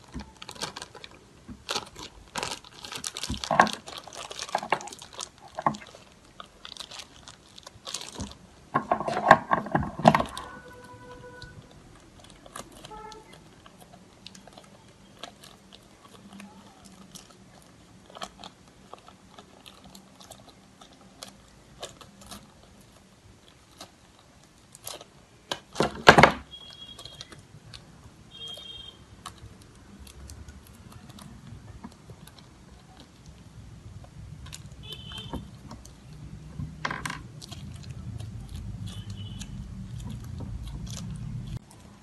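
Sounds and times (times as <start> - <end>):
plastic bag crinkling: 0.0 - 42.0.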